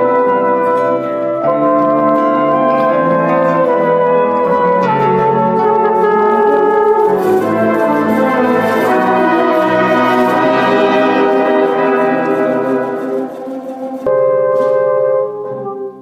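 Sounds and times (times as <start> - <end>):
brass held chords: 0.0 - 16.0
orchestra playing: 0.0 - 16.0.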